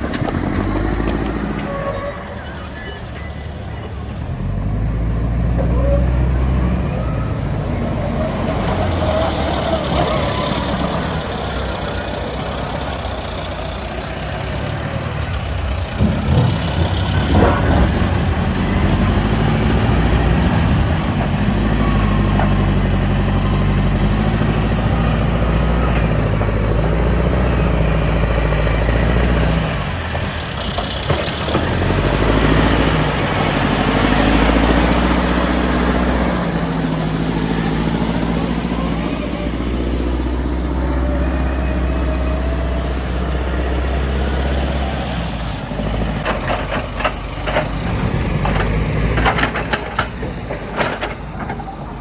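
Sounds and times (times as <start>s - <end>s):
heavy machinery diesel engine: 0.0s - 52.0s.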